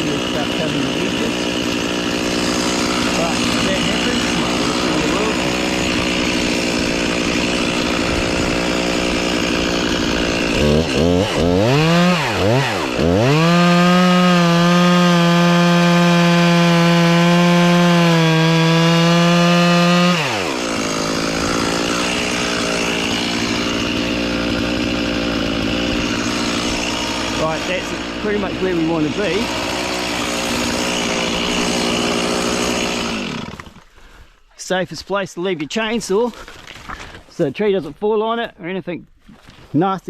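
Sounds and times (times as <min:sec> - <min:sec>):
chainsaw engine revving: 0:00.0 - 0:34.1.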